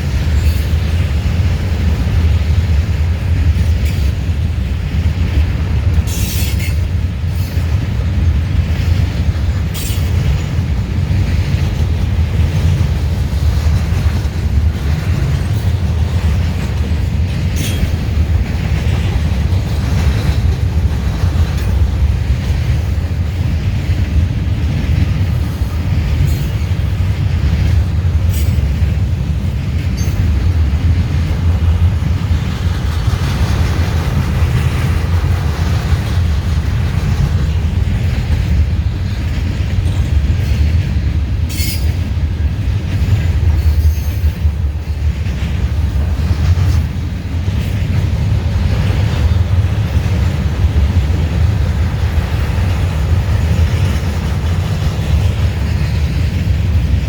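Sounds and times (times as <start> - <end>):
freight train rumbling: 0.0 - 57.0
train wheels clicking: 0.0 - 57.0.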